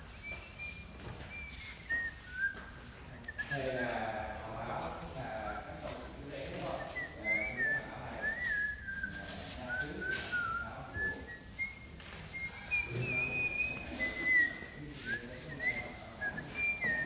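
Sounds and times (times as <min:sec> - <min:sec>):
person whistling a slow tune: 0:00.0 - 0:04.0, 0:06.6 - 0:17.0.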